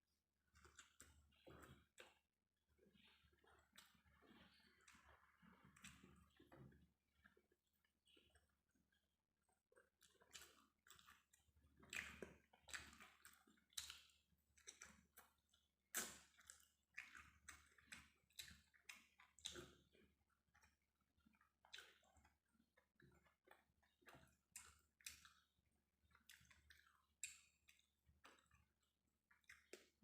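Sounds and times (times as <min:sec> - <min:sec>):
person chewing food: 0:00.4 - 0:30.0.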